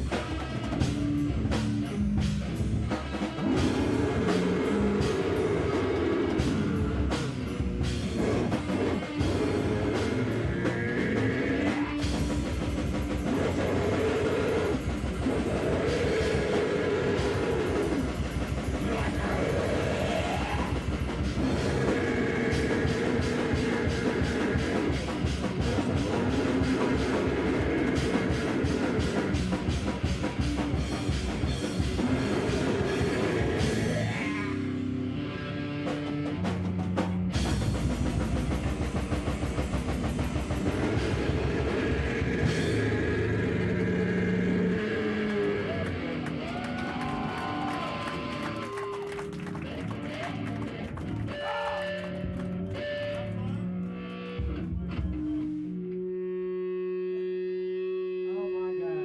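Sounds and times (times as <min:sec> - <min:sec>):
drum kit: 0:00.0 - 0:34.6, 0:35.8 - 0:53.2
guitar: 0:00.0 - 0:59.0.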